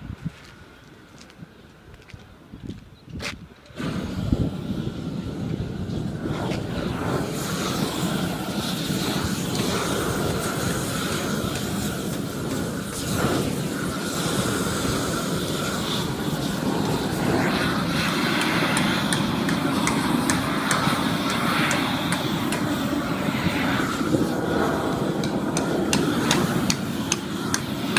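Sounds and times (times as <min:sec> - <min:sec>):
roofing torch roaring: 0:03.7 - 0:27.9.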